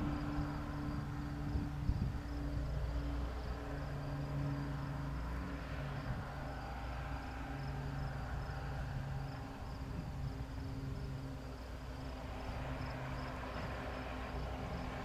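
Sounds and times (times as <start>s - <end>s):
insects chirping: 0.0s - 15.0s
low engine hum: 0.0s - 15.0s.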